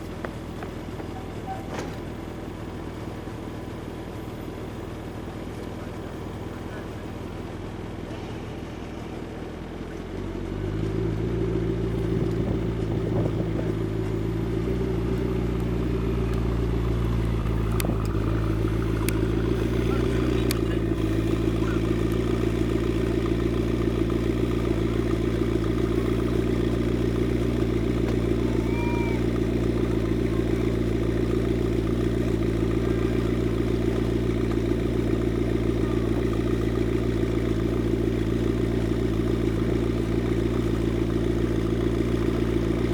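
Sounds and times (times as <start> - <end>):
sports car engine idling: 0.0 - 42.9.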